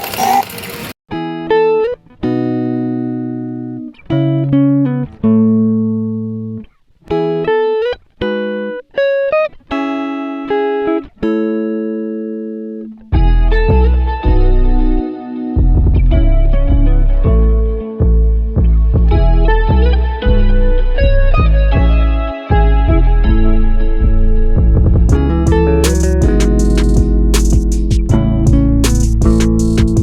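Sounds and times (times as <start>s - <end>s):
plucked guitar chords: 1.1s - 30.0s.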